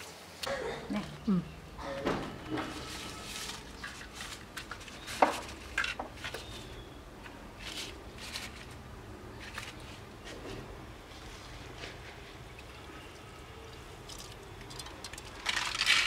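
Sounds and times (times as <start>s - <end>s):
leaves rustling and crinkling: 1.8s - 16.0s.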